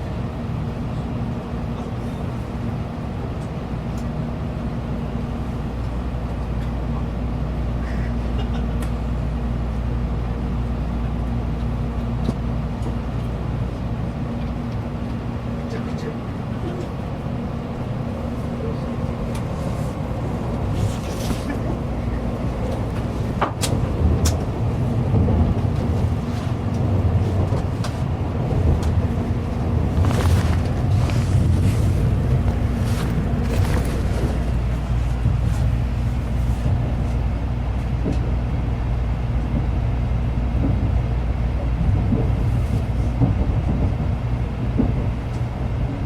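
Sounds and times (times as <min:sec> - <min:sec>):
train rumble and hiss: 0:00.0 - 0:46.0.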